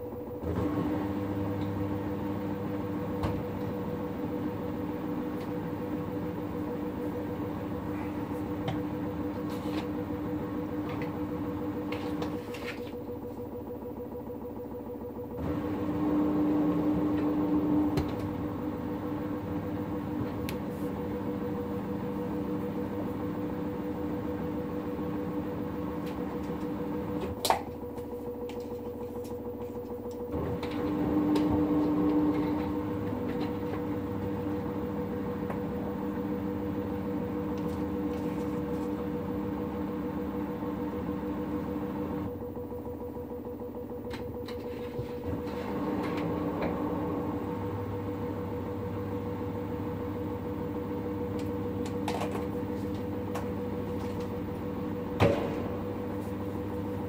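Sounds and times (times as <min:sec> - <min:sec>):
washing machine hum and whine: 0:00.0 - 0:57.0.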